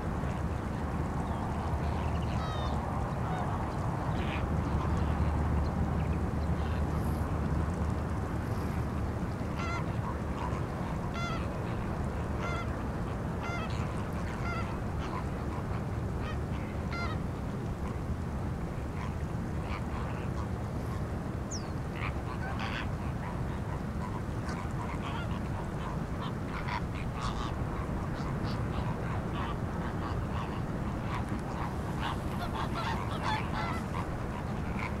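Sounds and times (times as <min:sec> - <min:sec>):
flamingos honking: 0:01.2 - 0:07.4, 0:09.5 - 0:17.2, 0:18.8 - 0:35.0.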